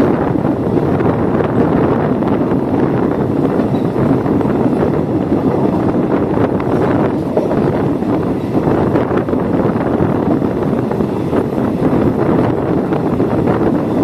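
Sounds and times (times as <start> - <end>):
moving train running noise: 0.0 - 14.0
wind rushing over microphone: 0.0 - 14.0.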